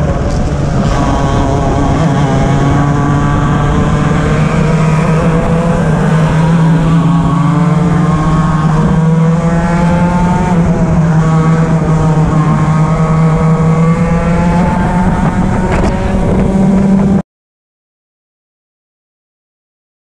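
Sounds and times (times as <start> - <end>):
kart engine at high revs: 0.0 - 17.2
other kart engines nearby: 0.0 - 17.2.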